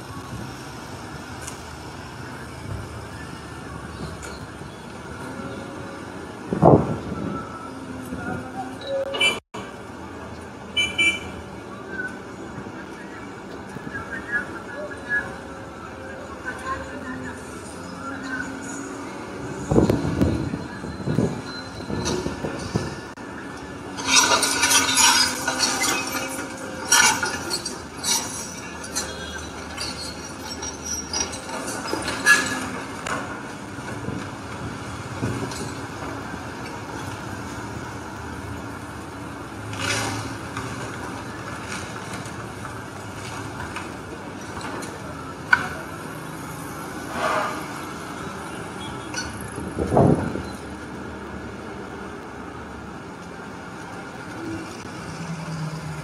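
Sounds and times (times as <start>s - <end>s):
street traffic: 0.0s - 56.0s.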